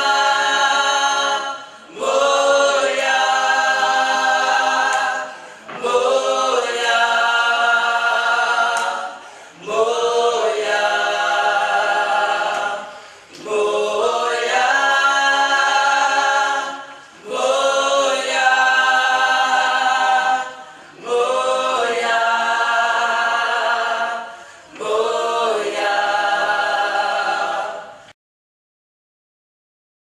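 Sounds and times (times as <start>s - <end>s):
gospel choir singing a cappella: 0.0s - 28.2s.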